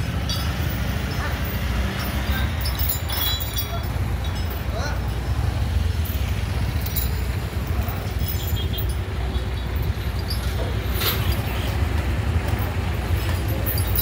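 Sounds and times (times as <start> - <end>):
scooter engine rumble: 0.0 - 14.0
street traffic: 0.0 - 14.0.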